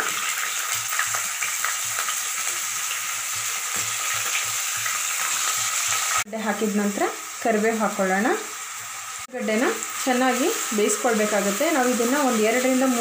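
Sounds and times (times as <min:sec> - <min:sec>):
potato sizzling in hot oil: 0:00.0 - 0:13.0.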